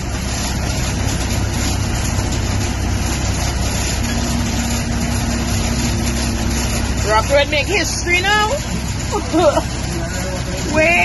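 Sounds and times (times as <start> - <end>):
vehicle engine running: 0.0 - 11.0
water rushing noise: 0.0 - 11.0.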